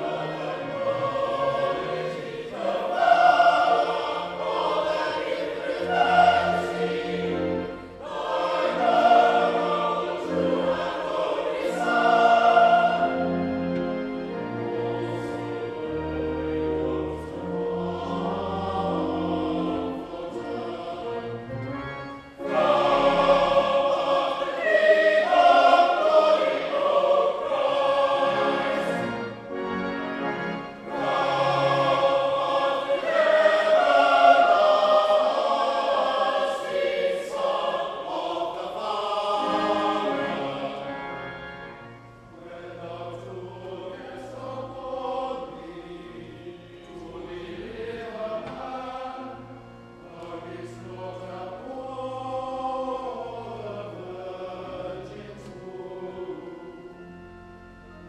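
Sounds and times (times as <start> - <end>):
choir singing: 0.0 - 58.0
organ notes: 0.0 - 58.0.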